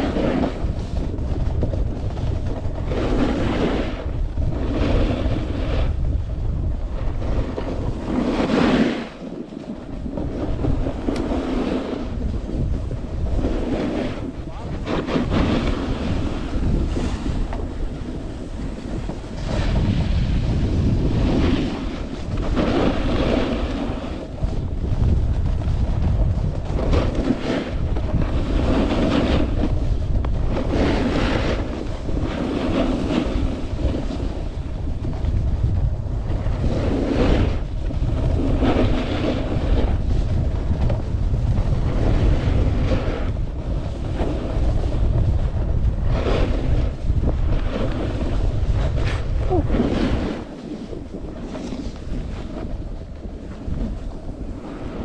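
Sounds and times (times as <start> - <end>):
skis scraping on packed snow: 0.0 - 55.0
wind on microphone: 0.0 - 55.0.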